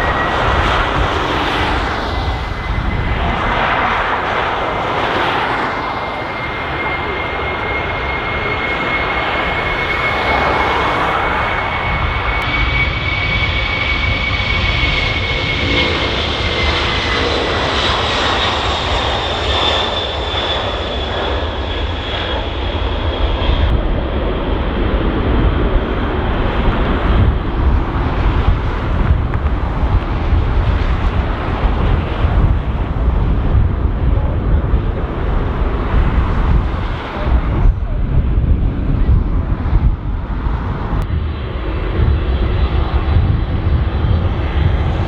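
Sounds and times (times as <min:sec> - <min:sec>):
wind buffeting microphone: 0:00.0 - 0:17.1, 0:23.4 - 0:45.0
jet engines at takeoff power: 0:00.0 - 0:45.0.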